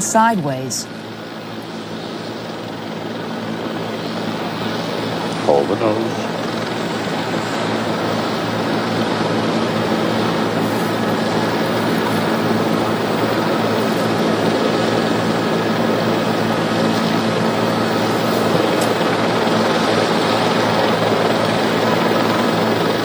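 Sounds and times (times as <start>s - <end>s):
aircraft roar: 0.0s - 23.0s.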